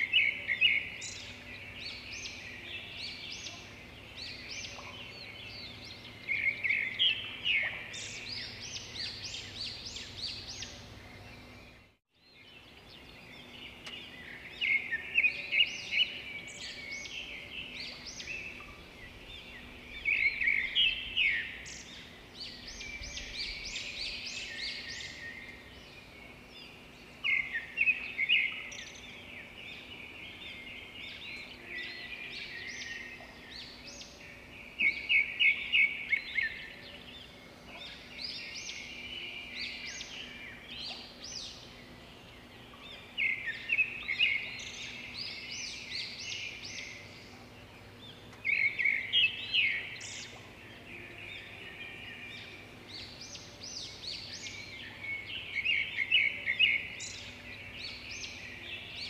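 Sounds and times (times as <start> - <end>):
faint background hiss: 0.0 - 59.0
quiet bird twittering: 0.0 - 59.0.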